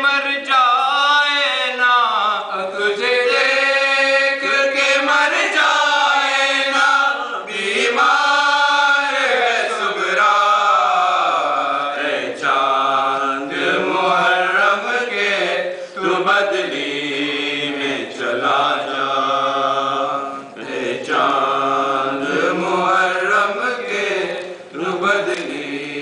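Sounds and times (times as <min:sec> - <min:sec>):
men chanting without instruments: 0:00.0 - 0:26.0.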